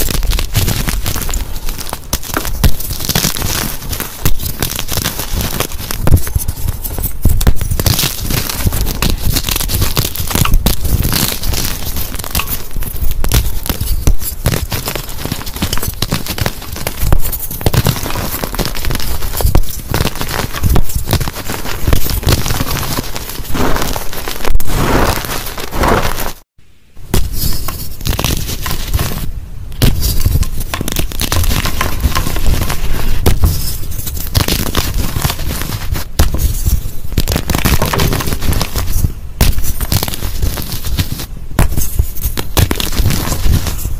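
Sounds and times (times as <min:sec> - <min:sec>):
chalk crunching and crackling: 0:00.0 - 0:26.5, 0:27.1 - 0:43.9.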